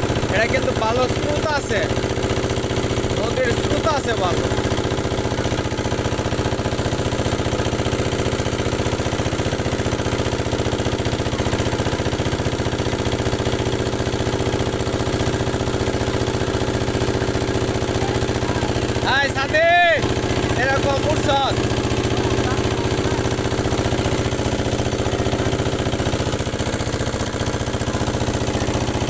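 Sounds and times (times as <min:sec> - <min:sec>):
motor boat engine droning: 0:00.0 - 0:29.0.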